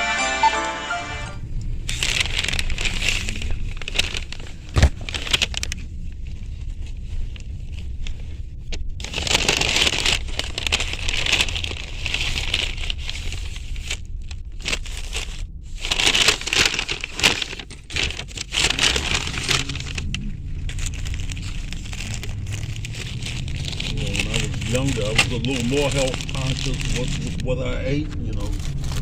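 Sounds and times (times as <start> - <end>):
low hum: 0.0 - 29.0
food packaging crinkling: 1.8 - 6.0, 9.0 - 27.5, 28.1 - 29.0.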